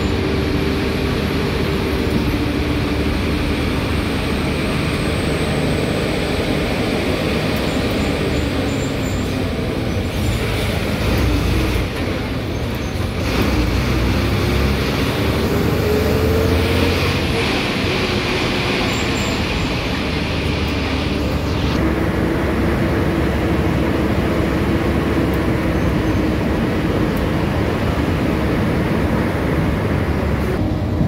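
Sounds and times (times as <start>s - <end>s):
bus diesel engine running: 0.0s - 31.0s
road noise: 0.0s - 31.0s.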